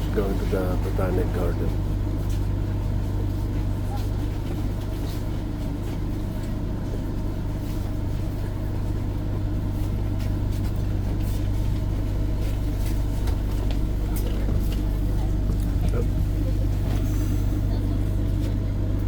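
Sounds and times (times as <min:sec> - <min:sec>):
tram equipment humming: 0:00.0 - 0:19.0
tram rumble: 0:00.0 - 0:19.0.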